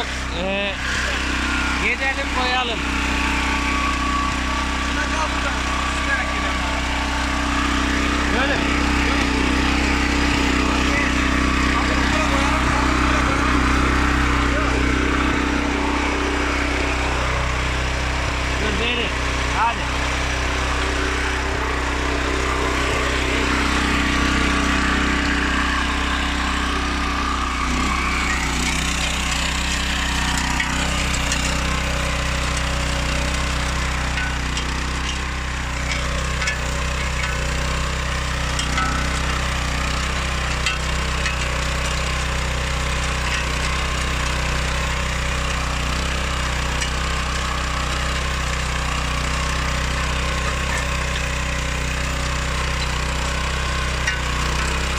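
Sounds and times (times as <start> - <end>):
tiller petrol engine running: 0.0 - 54.9.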